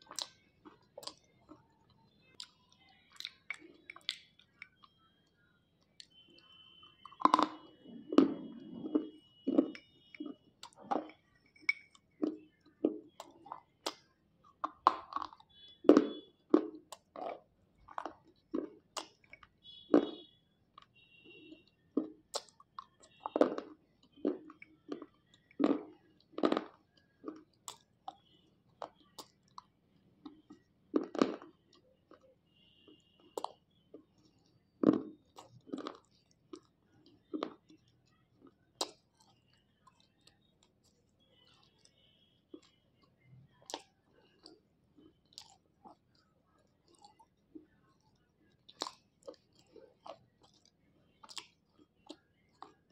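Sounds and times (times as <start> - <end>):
soft chewing: 0.0 - 52.9.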